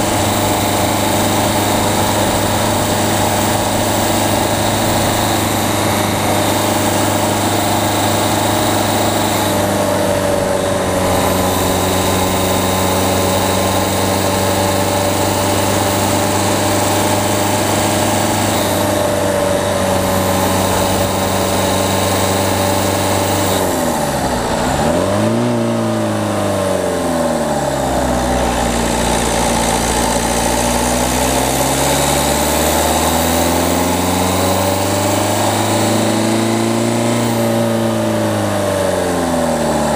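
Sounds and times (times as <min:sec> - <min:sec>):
car diesel engine pulling: 0:00.0 - 0:39.9.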